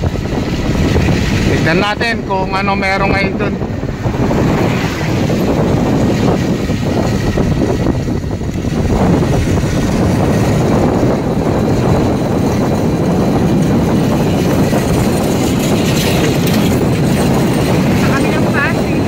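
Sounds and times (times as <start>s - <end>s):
street traffic: 0.0s - 19.0s
wind buffeting microphone: 0.0s - 19.0s.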